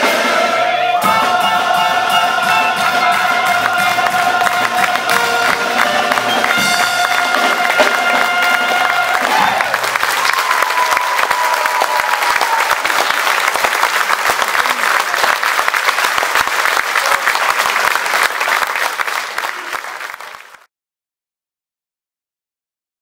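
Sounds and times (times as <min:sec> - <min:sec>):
audience applauding: 0:01.3 - 0:20.7.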